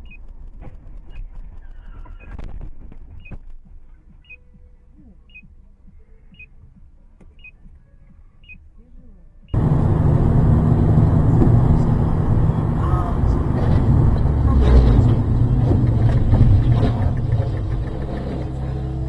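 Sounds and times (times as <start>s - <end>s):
road and engine noise inside car: 0.0s - 19.0s.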